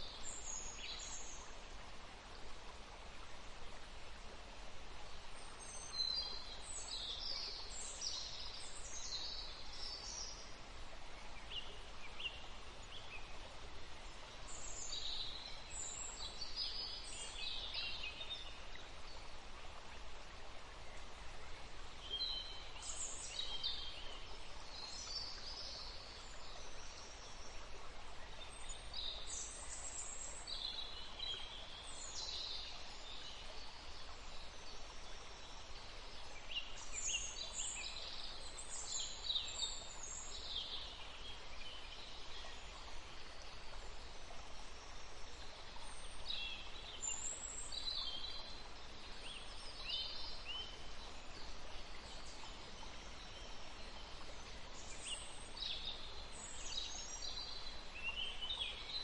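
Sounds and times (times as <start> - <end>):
background hiss: 0.0 - 59.0
songbirds chirping: 0.0 - 59.0.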